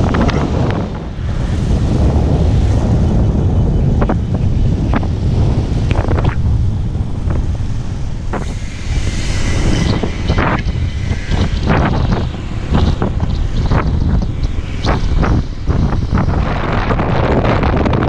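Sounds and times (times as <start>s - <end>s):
road noise: 0.0s - 18.0s
wind buffeting microphone: 0.0s - 18.0s
motorcycle engine: 2.4s - 17.8s.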